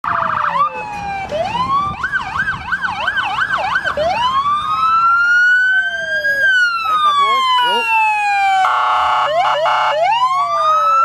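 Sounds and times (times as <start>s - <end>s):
police sirens wailing and yelping: 0.0s - 11.0s.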